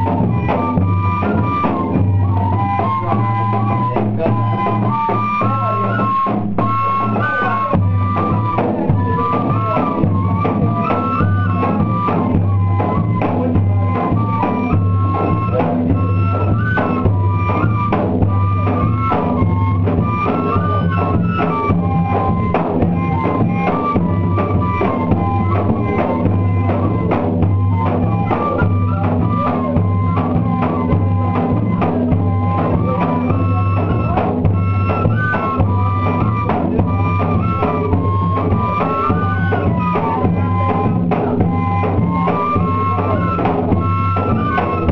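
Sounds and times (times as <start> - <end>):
drums steady beat: 0.0 - 44.9
fife melody: 0.0 - 44.9.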